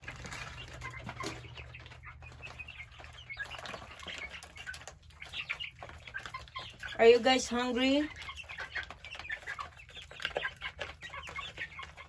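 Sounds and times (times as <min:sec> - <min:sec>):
chicks chirping and peeping: 0:00.0 - 0:12.0.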